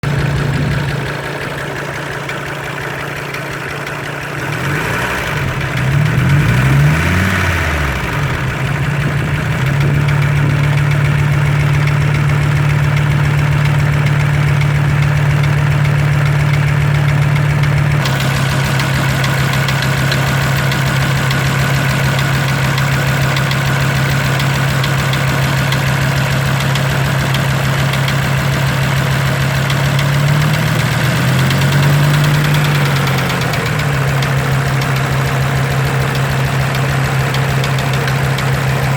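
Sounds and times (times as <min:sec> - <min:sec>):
diesel engine knocking and revving: 0:00.0 - 0:38.9.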